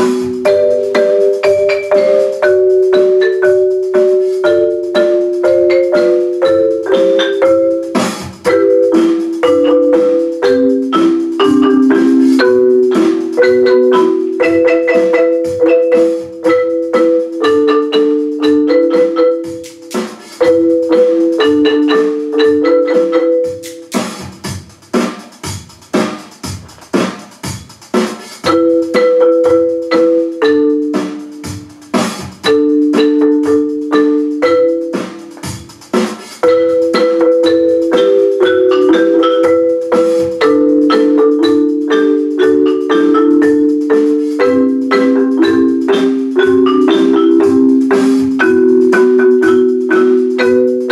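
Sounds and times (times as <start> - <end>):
sharp marimba mallet strikes: 0.0 - 24.3, 28.4 - 50.9
marimba rolled chords: 0.0 - 24.6, 28.4 - 50.9.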